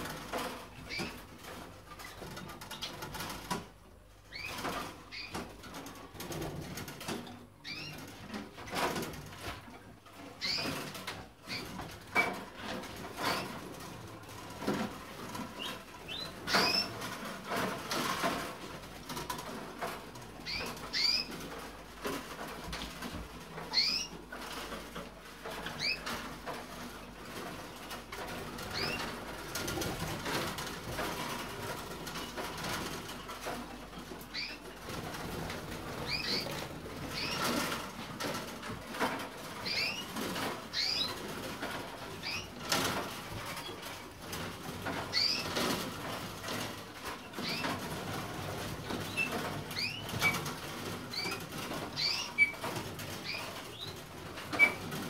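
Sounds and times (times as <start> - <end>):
rustling in cages: 0.0 - 55.0.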